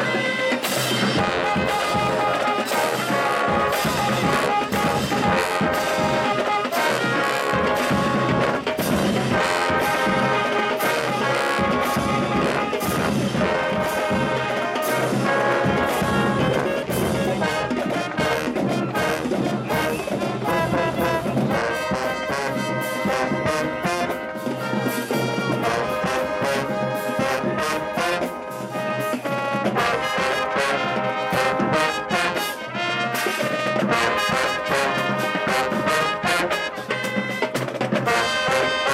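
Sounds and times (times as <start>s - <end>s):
brass section playing: 0.0s - 38.9s
drumline: 0.0s - 38.9s.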